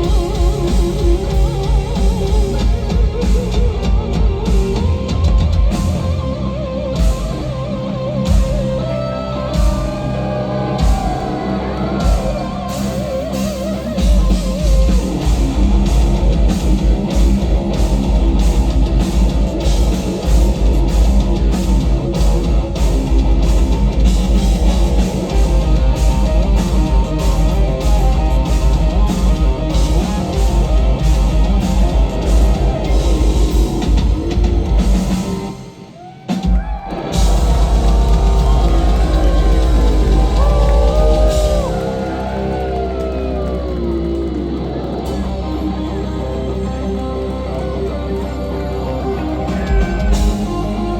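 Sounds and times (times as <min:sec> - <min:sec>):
lead electric guitar: 0:00.0 - 0:36.0, 0:36.7 - 0:50.9
heavy metal band playing: 0:00.0 - 0:50.9.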